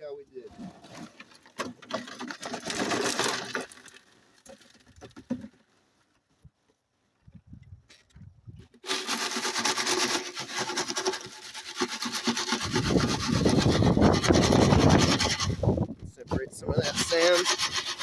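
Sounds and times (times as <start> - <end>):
rocks and sand through sifting screen: 0.4 - 5.8, 8.7 - 18.0.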